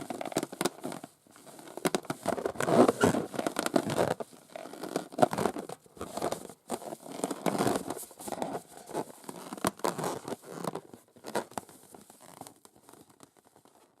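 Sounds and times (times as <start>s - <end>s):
nails scratching and tapping balloons: 0.0s - 13.7s.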